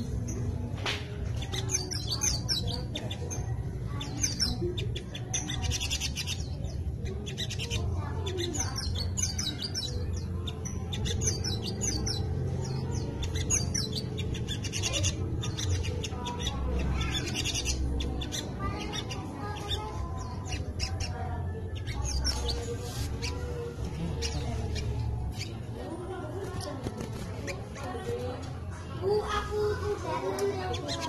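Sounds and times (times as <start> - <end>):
bird singing high twittering song: 0.0 - 27.9.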